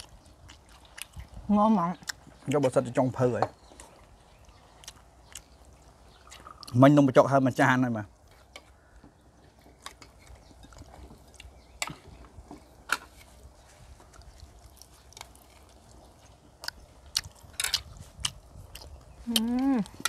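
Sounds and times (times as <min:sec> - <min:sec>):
people chewing food: 0:00.0 - 0:20.0.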